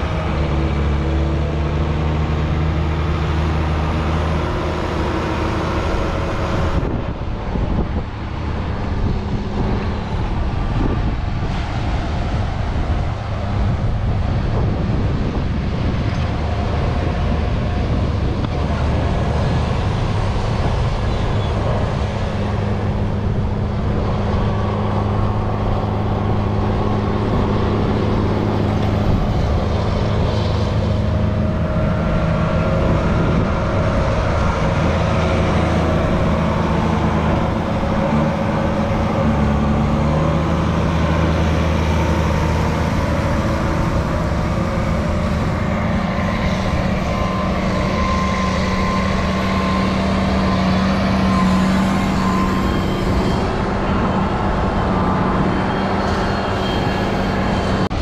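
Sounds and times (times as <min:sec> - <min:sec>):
diesel tractor engines droning: 0:00.0 - 0:58.0.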